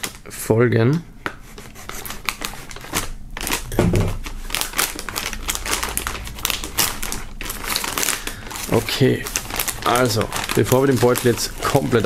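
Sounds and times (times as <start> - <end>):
foil crinkling: 2.0 - 12.0.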